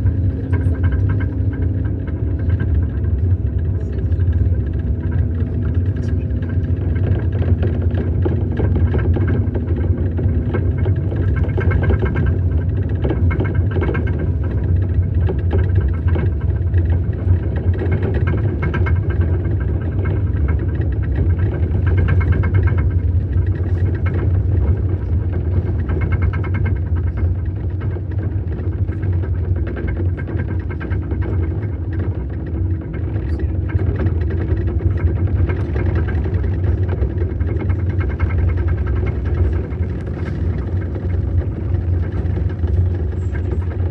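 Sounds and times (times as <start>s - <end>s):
snowcat engine rumbling: 0.0s - 43.9s.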